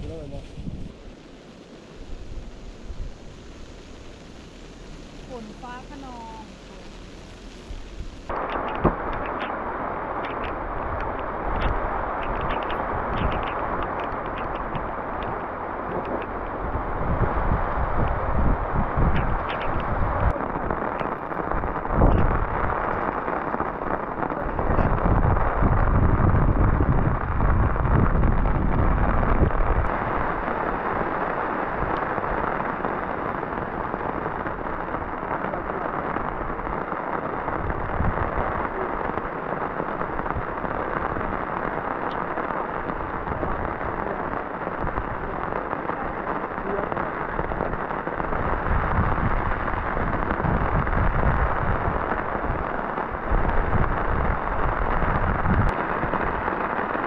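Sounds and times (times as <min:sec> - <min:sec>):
heavy rain pouring: 0:00.0 - 0:57.0
thunder rumbles: 0:07.6 - 0:57.0.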